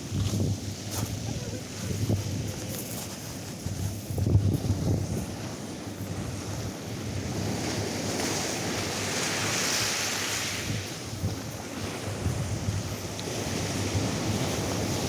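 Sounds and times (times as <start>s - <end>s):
waves breaking on sand: 0.0s - 15.0s
wind buffeting microphone: 0.0s - 15.0s.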